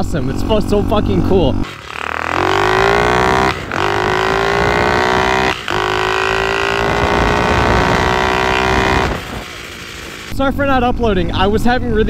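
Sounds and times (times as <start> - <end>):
small motorbike engine revving: 0.0 - 10.4.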